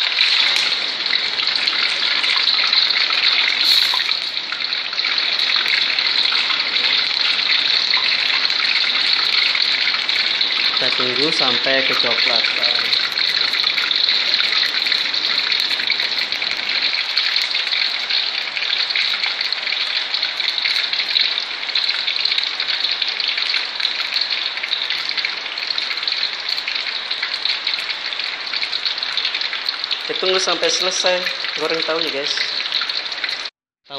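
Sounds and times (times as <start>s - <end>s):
tofu sizzling in hot oil: 0.0s - 33.5s.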